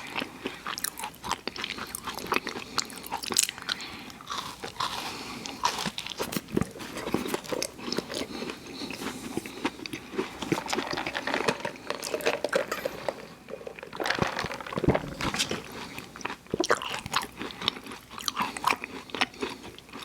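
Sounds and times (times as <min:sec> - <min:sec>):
close chewing and biting: 0:00.0 - 0:12.3, 0:13.8 - 0:20.0.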